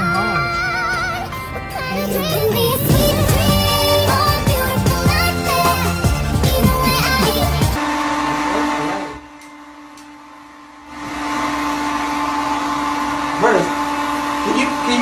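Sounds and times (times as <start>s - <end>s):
electric motor whining: 2.3s - 15.0s.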